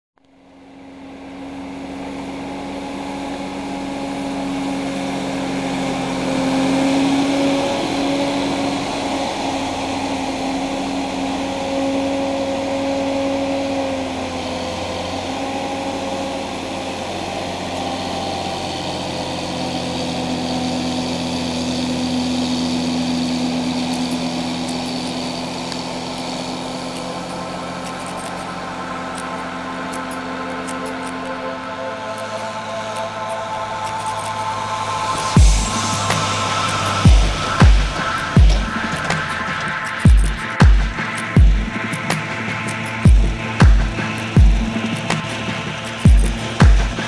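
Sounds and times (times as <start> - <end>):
tractor diesel engine running: 0.2 - 47.0.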